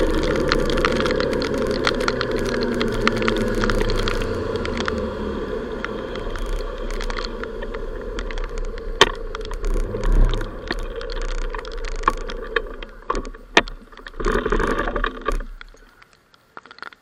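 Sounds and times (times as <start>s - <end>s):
sharp clicks and knocks: 0.0s - 5.1s, 5.8s - 17.0s
faint ticks: 0.0s - 5.2s, 5.8s - 17.0s
motorbike wind and riding noise: 0.0s - 15.5s.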